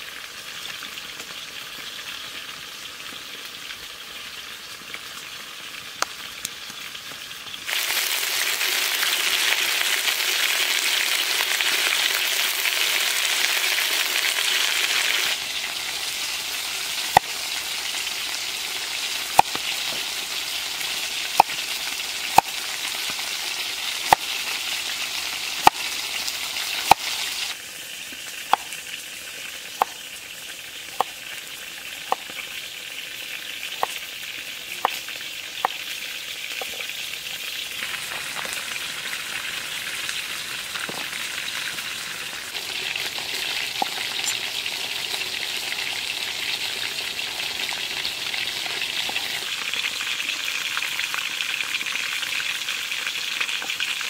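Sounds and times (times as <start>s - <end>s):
chicken sizzling in a wok: 0.0s - 54.0s.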